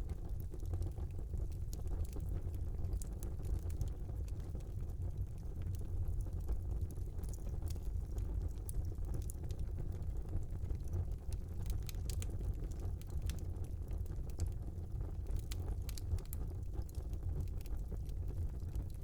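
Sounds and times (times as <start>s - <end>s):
burning wood crackling: 0.0s - 19.0s.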